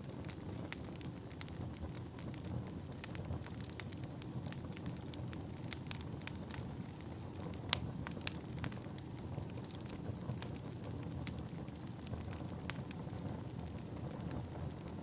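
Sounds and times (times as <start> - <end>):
low rush of flame: 0.0 - 15.0
wood fire crackling and popping: 0.0 - 15.0.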